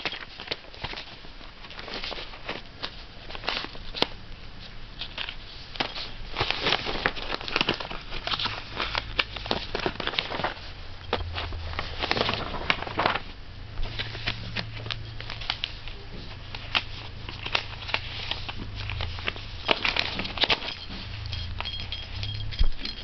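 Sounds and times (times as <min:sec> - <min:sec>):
paper rustling under cat's paws: 0:00.0 - 0:23.0.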